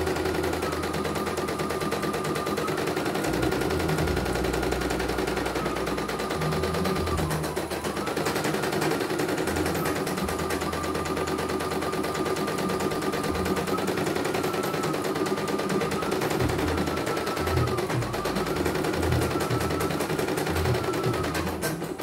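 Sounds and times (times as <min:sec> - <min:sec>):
motor hum: 0:00.0 - 0:21.9
embroidery machine needle rattling: 0:00.0 - 0:22.0.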